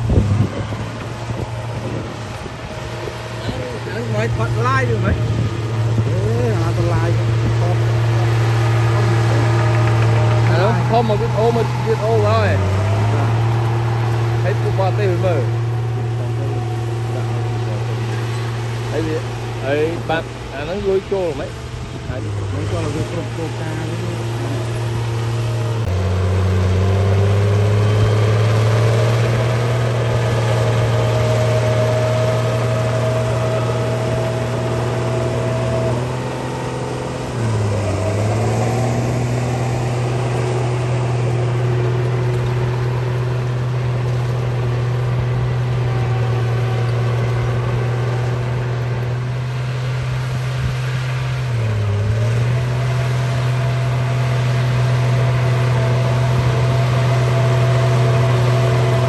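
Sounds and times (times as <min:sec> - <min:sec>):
bulldozer engine running: 0:00.0 - 0:59.0.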